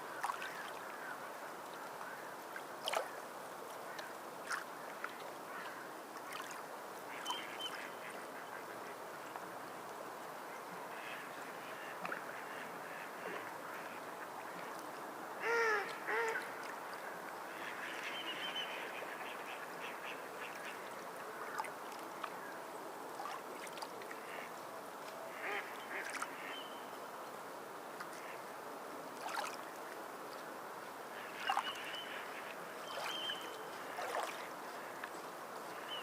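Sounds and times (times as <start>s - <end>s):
waterbirds calling: 0.1s - 9.4s, 10.3s - 27.2s, 29.2s - 36.0s.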